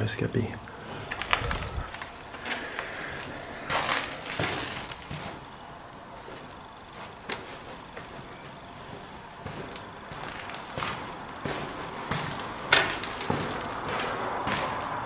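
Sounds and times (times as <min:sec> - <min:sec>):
footsteps crunching over debris: 0:00.8 - 0:15.0.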